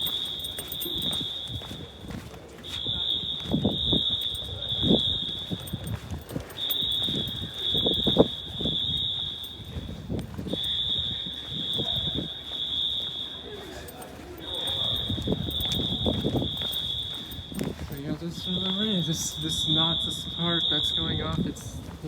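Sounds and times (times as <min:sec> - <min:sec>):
fire alarm horns high-pitched tone: 0:00.0 - 0:21.8.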